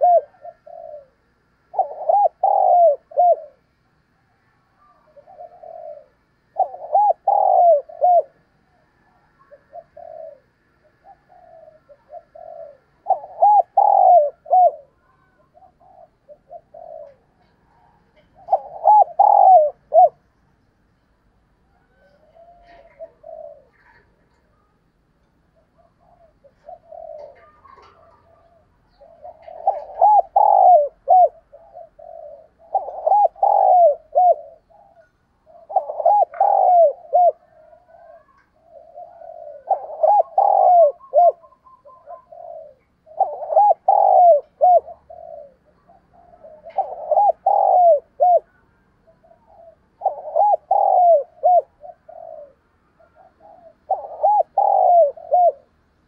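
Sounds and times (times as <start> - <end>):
dove cooing: 0.0 - 20.2, 21.6 - 56.0.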